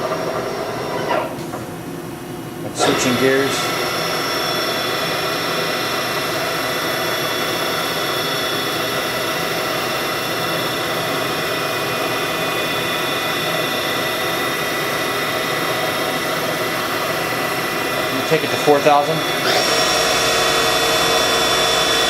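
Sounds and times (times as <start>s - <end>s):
milling machine spindle whine: 0.0s - 22.0s.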